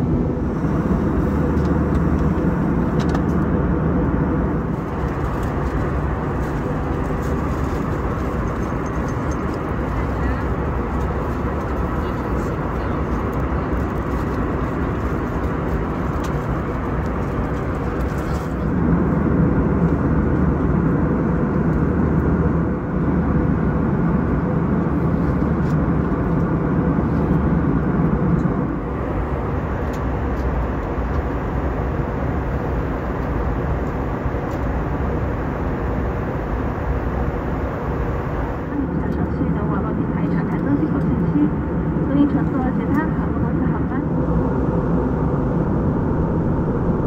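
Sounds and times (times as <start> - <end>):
airliner cabin drone: 0.0 - 47.0.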